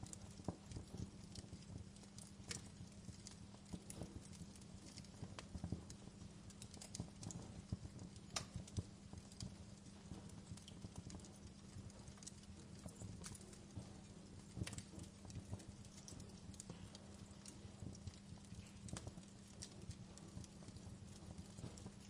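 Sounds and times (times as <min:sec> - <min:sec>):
sharp pops and snaps: 0:00.0 - 0:22.0
wood fire crackling: 0:00.0 - 0:22.0.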